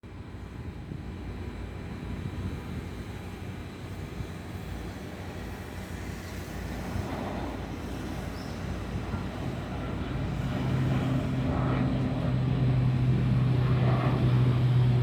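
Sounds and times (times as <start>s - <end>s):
turboprop engines rumbling: 0.0s - 15.0s.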